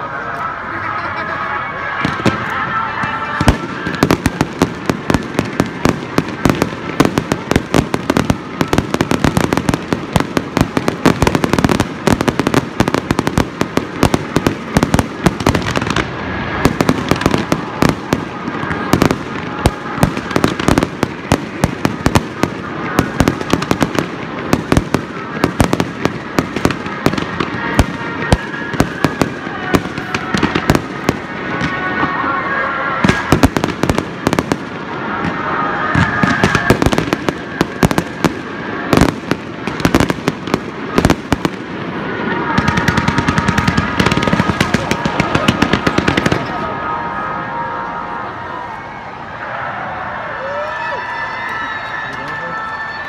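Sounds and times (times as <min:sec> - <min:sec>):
fireworks bangs and pops: 0:02.0 - 0:32.2, 0:33.0 - 0:41.9, 0:42.5 - 0:46.6.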